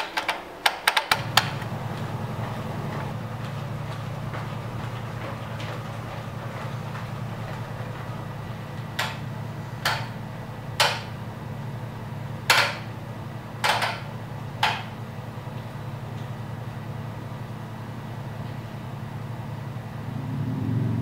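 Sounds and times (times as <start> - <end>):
steady low hum: 1.1 - 21.0.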